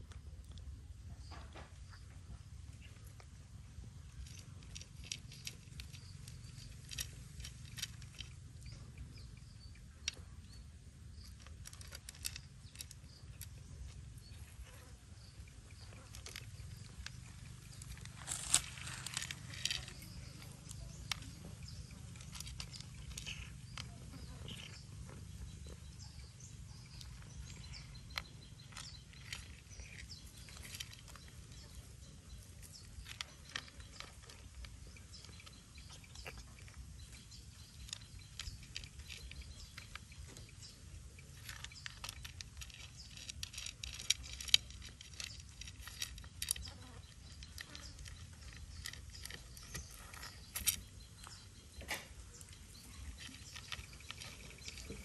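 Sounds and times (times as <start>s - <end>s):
cat crunching dry kibble: 2.9s - 55.0s.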